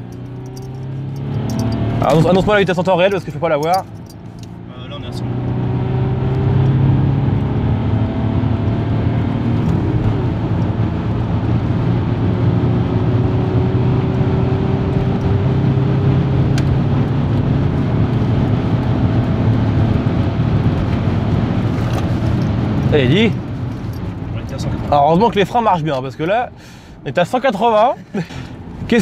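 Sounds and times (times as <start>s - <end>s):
diesel engine accelerating: 0.0s - 26.3s, 27.0s - 29.0s
road and wind noise: 0.0s - 29.0s.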